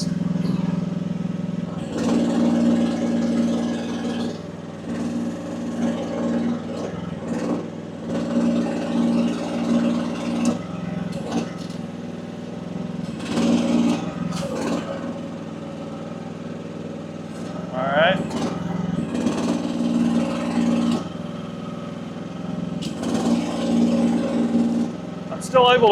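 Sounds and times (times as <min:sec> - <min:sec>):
mini excavator engine running: 0:00.0 - 0:25.9
hydraulic pump straining: 0:01.6 - 0:16.2, 0:17.2 - 0:25.9.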